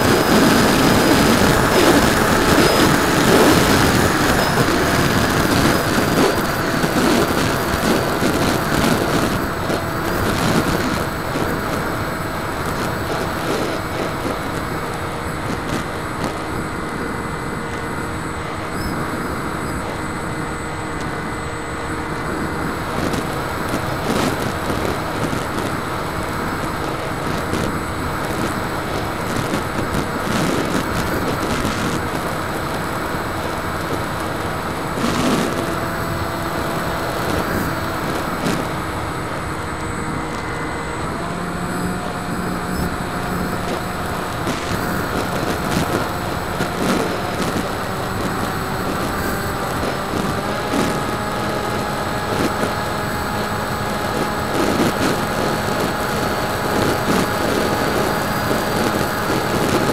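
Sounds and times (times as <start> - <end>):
model plane motor whine: 0.0 - 59.9
rushing air: 0.0 - 59.9.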